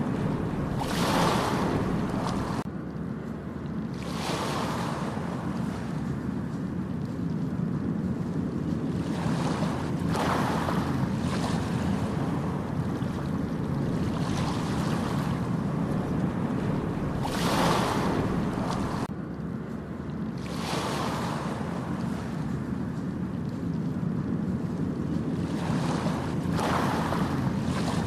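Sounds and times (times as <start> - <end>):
ocean waves breaking on beach: 0.0 - 2.7, 3.9 - 19.1, 20.3 - 28.0
steady low rumble: 0.0 - 4.0, 4.9 - 28.0.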